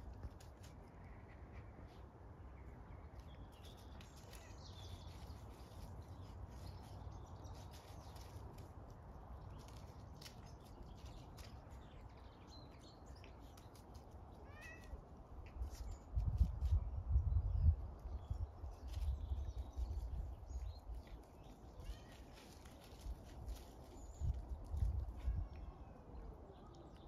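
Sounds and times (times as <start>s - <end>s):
animals scuffling in dry leaves: 0.0s - 17.0s, 18.1s - 27.0s.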